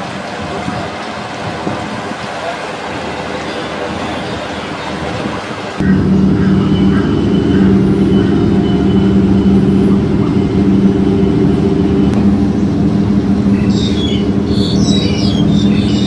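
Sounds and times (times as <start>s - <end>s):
low engine drone: 2.7s - 16.0s
birds chirping: 3.1s - 16.0s.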